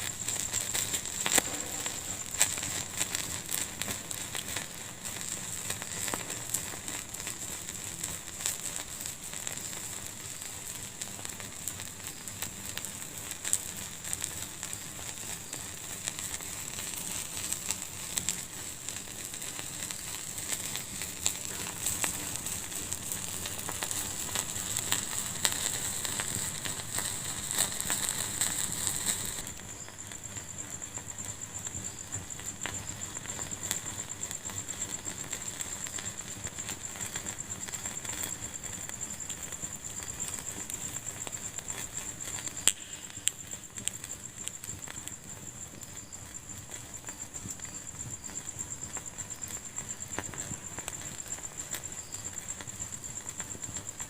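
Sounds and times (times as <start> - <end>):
steady high hiss: 0.0 - 54.0
wood fire crackling and popping: 0.0 - 54.0.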